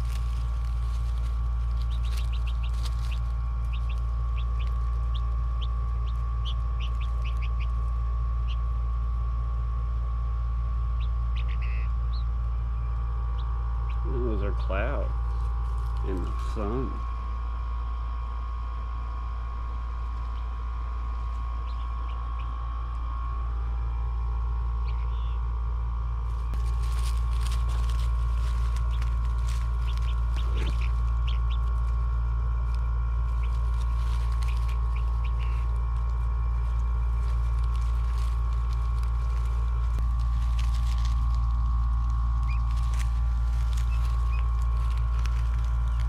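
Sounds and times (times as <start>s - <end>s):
chicks peeping: 0.0s - 9.1s, 10.8s - 17.1s, 19.6s - 23.0s, 23.9s - 25.4s, 26.3s - 46.0s
steady low rumble: 0.0s - 46.0s.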